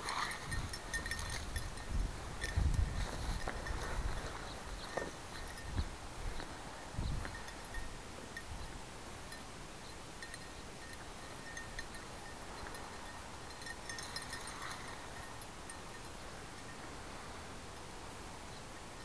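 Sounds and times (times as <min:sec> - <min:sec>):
faint metallic tinkling: 0:00.0 - 0:19.0
steady hiss: 0:00.0 - 0:19.0.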